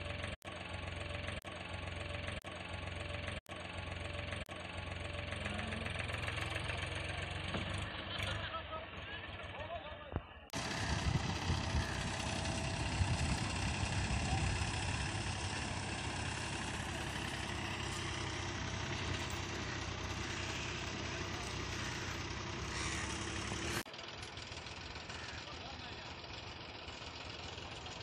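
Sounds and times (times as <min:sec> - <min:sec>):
diesel tractor engine running: 0:00.0 - 0:09.8, 0:10.4 - 0:28.0.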